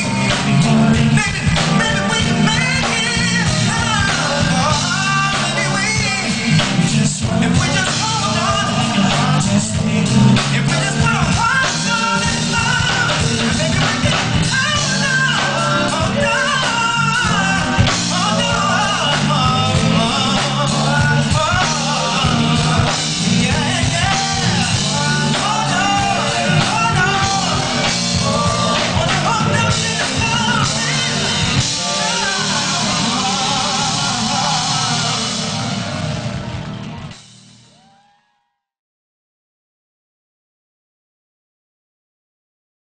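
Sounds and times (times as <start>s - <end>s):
man singing: 0.0s - 36.0s
live band playing: 0.0s - 38.2s.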